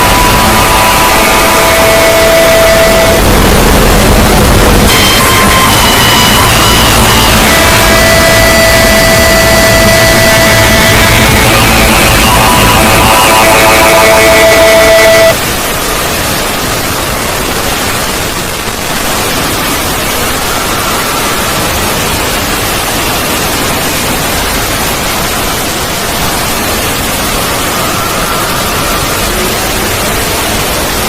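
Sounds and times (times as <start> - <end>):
loud static hiss: 0.0 - 31.0.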